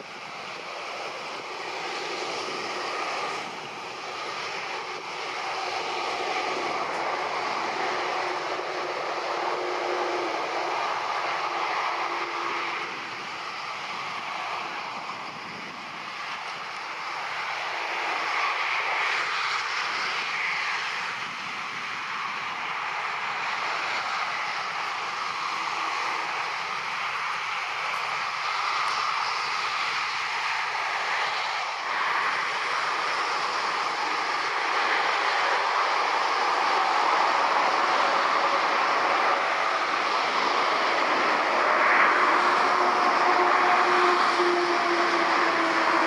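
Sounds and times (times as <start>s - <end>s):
jet engines taxiing: 0.0s - 46.0s.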